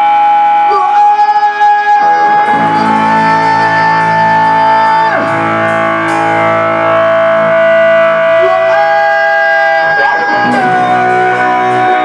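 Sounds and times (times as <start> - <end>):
high note diving in pitch: 2.0 - 12.0
live rock band playing: 2.0 - 12.0.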